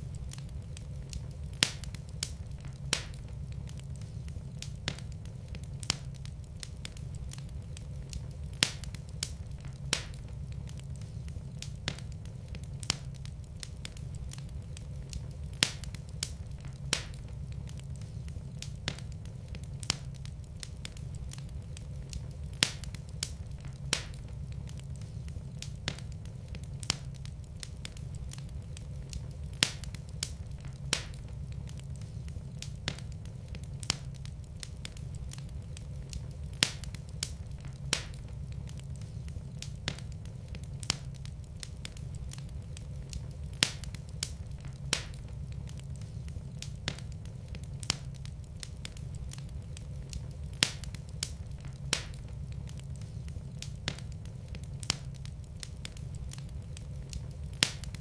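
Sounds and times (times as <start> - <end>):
fire crackling and popping: 0.0 - 58.0
fire rumbling: 0.0 - 58.0.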